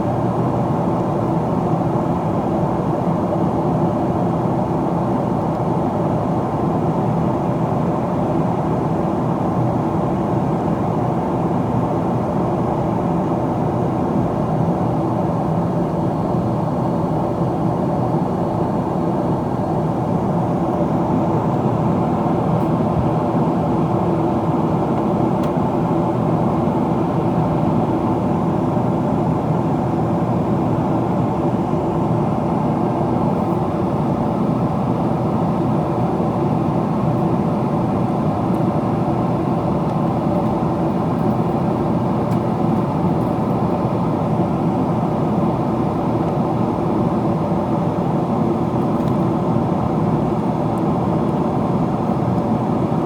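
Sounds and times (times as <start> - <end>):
low hum of jet engines: 0.0 - 53.0
rush of cabin airflow: 0.0 - 53.0.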